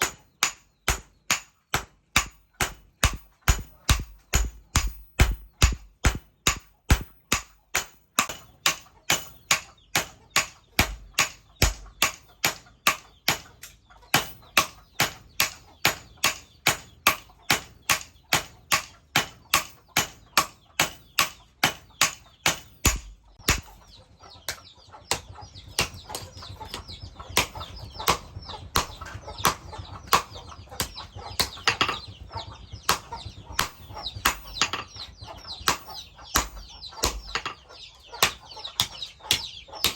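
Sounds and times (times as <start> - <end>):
hammer striking steel on anvil: 0.0 - 23.8, 24.5 - 32.2, 32.8 - 39.9.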